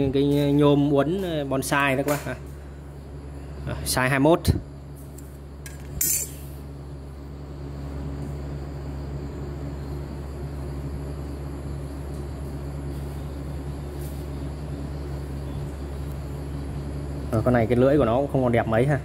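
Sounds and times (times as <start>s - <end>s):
low machine rumble: 0.0s - 19.0s.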